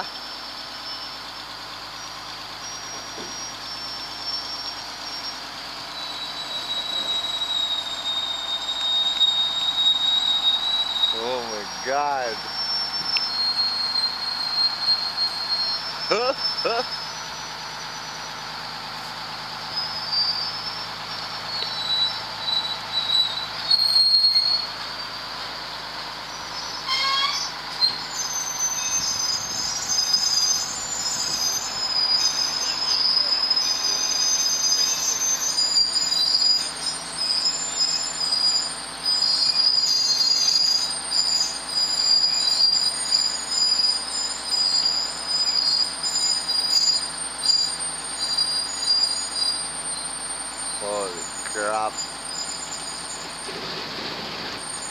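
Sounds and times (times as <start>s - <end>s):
metal-on-metal squealing: 0.0s - 54.9s.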